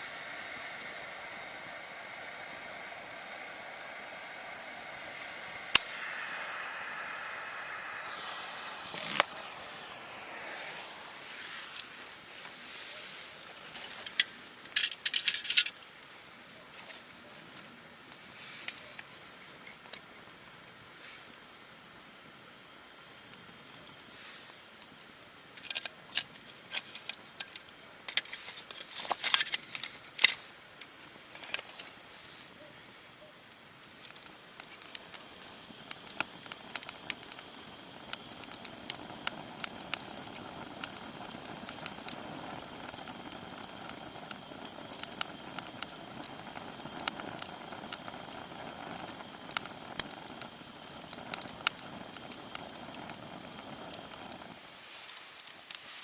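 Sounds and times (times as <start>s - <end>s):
campfire crackling and popping: 0.0s - 16.1s, 16.7s - 56.0s
soft steady hiss: 0.0s - 56.0s.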